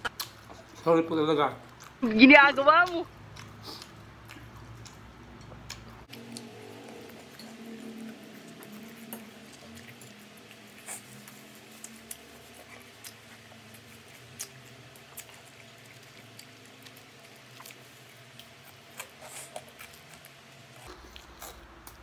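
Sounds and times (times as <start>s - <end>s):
faint chewing and mouth clicks: 0.0s - 1.0s, 1.6s - 2.1s, 2.8s - 22.0s
steady low hum: 1.5s - 22.0s.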